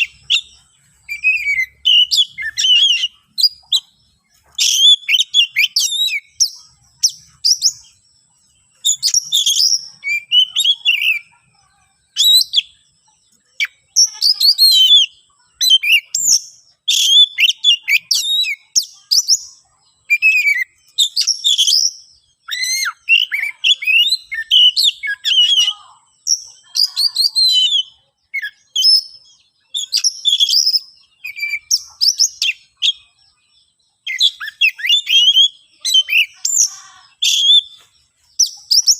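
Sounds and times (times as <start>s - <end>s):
bird singing varied whistles: 0.0s - 7.9s, 8.8s - 11.3s, 12.1s - 12.8s, 13.6s - 37.8s, 38.4s - 38.9s.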